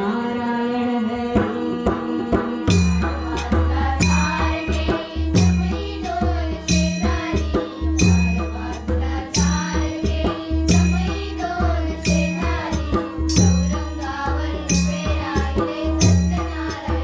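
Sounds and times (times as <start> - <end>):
small hand cymbals striking: 2.7 - 17.0.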